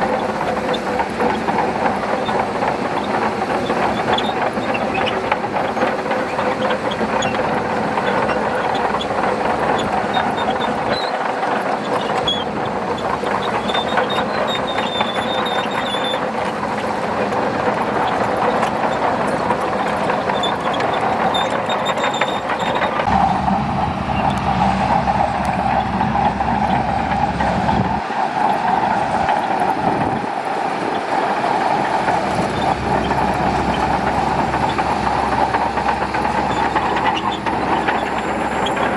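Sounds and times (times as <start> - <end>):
bulldozer tracks clattering: 0.0 - 38.9
diesel engine rumble: 0.0 - 38.9.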